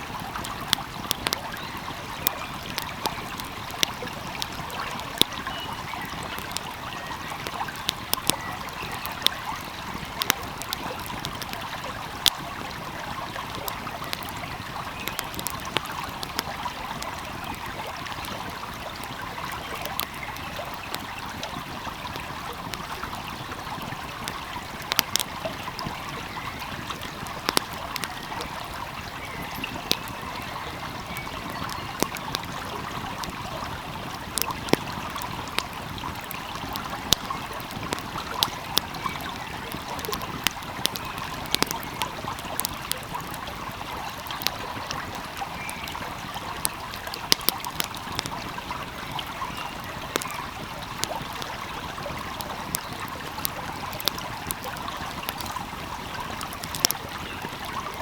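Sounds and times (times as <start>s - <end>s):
stream flowing: 0.0s - 58.0s
wood fire crackling: 0.0s - 58.0s.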